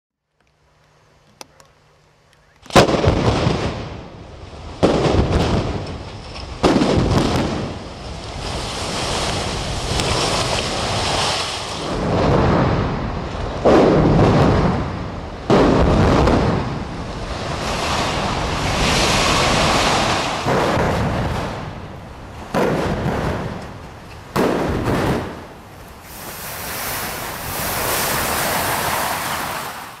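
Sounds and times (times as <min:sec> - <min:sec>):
explosive blasts: 0:02.7 - 0:30.0
buildings collapsing rumble: 0:02.8 - 0:30.0.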